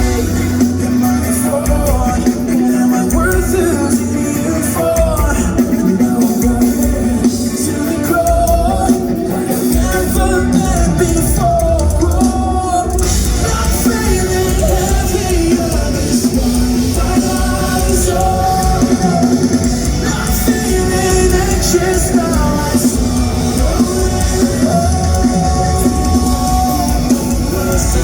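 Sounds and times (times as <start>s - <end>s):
person singing: 0.0s - 28.0s
rock band playing live: 0.0s - 28.0s.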